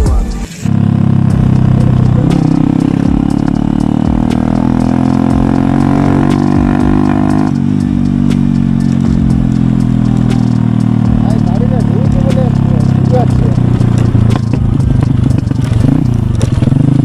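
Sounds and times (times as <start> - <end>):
motorcycle engine droning: 0.1 - 17.0.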